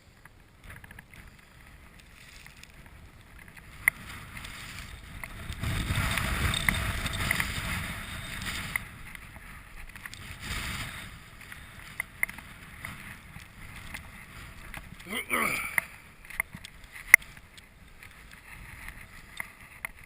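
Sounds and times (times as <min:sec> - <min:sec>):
faint clicks and crunches: 0:00.1 - 0:20.0
wind buffeting microphone: 0:00.4 - 0:20.0.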